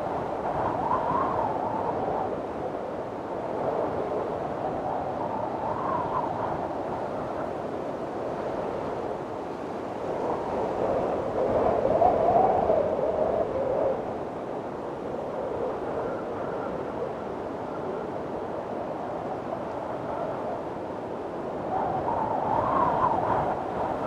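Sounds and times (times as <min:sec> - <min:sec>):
strong wind gusting: 0:00.0 - 0:24.0.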